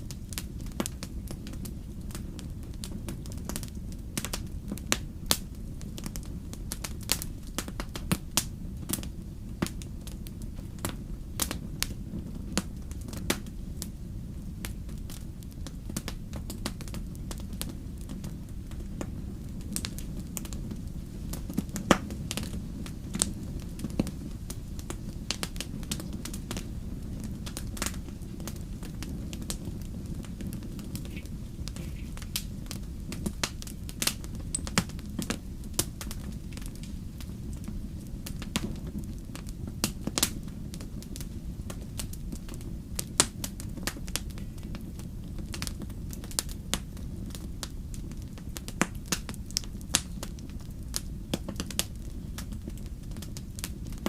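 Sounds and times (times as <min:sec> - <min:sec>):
logs crackling and popping: 0:00.0 - 0:54.0
rumble of flames: 0:00.0 - 0:54.0.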